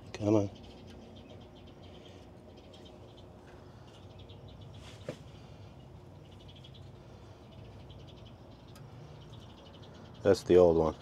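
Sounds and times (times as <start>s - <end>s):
low steady hum: 0.0s - 11.0s
wildlife chirping: 0.0s - 11.0s.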